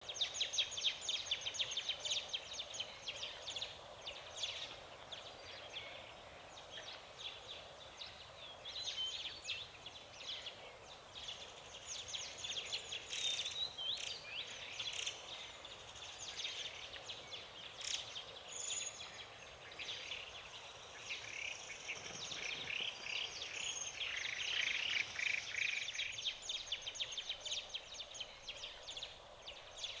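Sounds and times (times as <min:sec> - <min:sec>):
forest songbirds chirping: 0:00.0 - 0:30.0.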